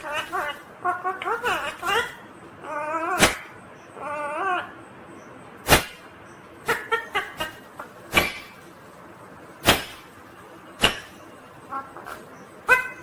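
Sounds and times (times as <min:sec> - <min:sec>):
parrot squawking and chirping: 0:00.0 - 0:08.7, 0:09.6 - 0:13.0.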